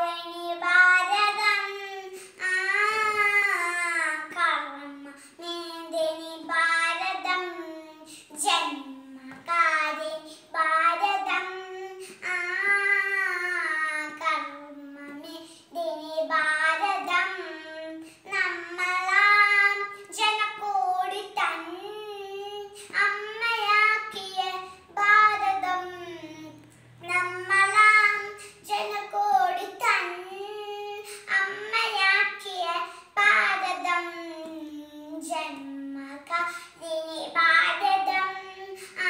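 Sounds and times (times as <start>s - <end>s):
girl singing unaccompanied: 0.0s - 39.0s.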